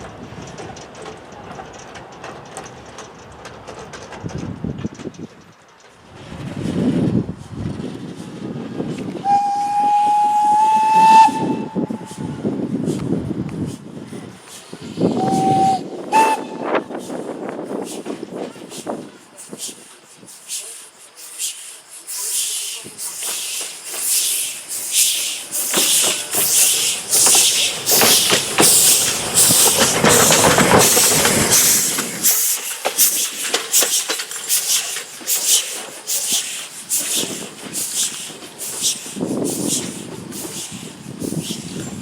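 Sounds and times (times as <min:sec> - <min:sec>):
steam locomotive chuffing: 0:00.0 - 0:42.0.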